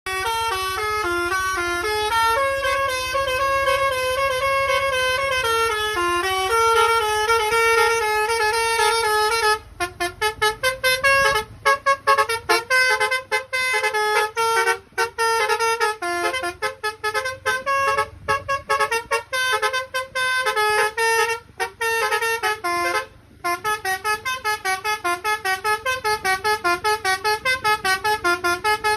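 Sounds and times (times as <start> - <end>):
musical horn playing melody: 0.1 - 28.9.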